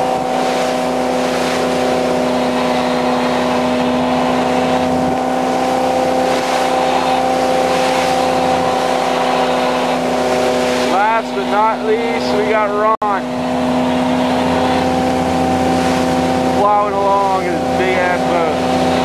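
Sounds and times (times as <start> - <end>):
boat engines droning: 0.0 - 19.0
wind and water rushing: 0.0 - 19.0.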